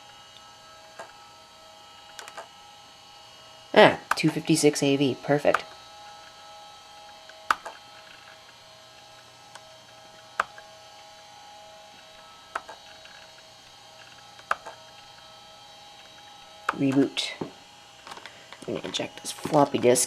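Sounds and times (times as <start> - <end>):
electrical hum and whine: 0.0 - 20.0.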